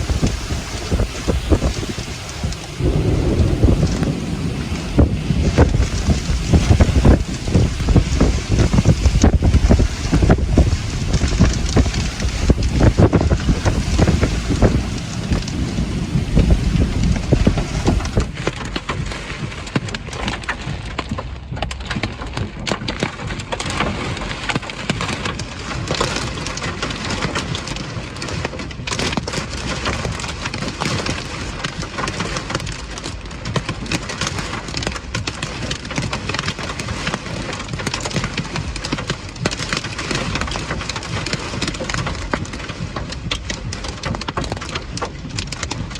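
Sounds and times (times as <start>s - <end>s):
heavy rain: 0.0s - 45.9s
sharp raindrop hits: 0.0s - 45.9s
wind buffeting microphone: 0.0s - 45.9s.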